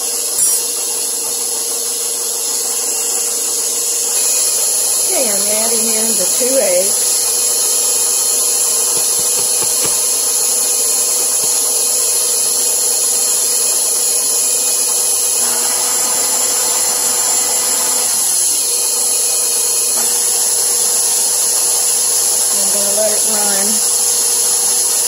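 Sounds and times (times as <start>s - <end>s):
stand mixer motor humming: 0.0s - 25.0s.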